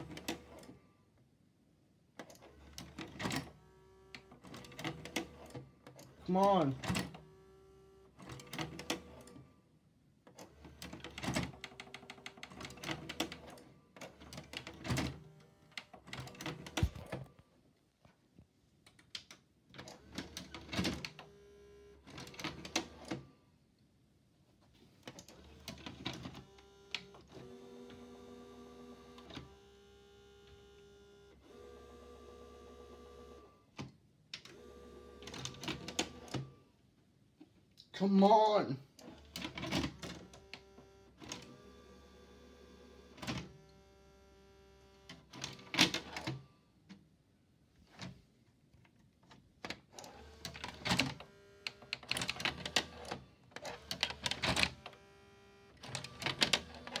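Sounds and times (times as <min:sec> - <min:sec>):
tape mechanism clicking and whirring: 0:00.0 - 0:00.8, 0:02.2 - 0:09.5, 0:10.3 - 0:17.4, 0:18.8 - 0:23.3, 0:25.0 - 0:36.6, 0:38.4 - 0:46.5, 0:49.0 - 0:57.0.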